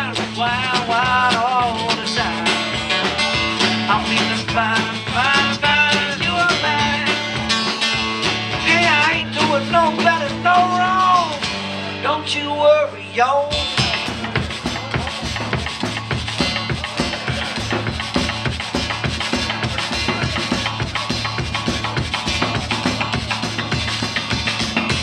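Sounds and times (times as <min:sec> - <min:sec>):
drum kit beat: 0:00.0 - 0:12.4, 0:13.3 - 0:25.0
strummed acoustic guitar: 0:00.0 - 0:25.0.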